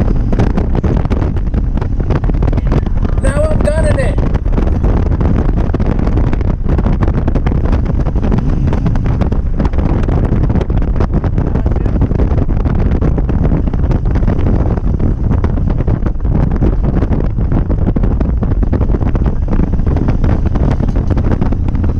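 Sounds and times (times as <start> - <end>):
motorcycle rumble: 0.0 - 21.9
wind buffeting microphone: 0.0 - 21.9.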